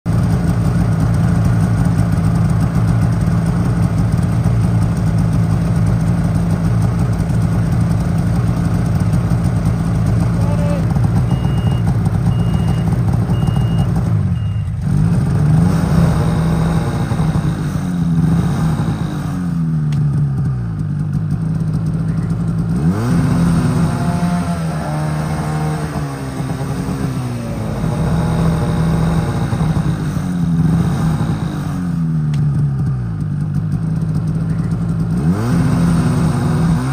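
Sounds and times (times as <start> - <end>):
snowmobile engine revving: 0.1 - 36.9.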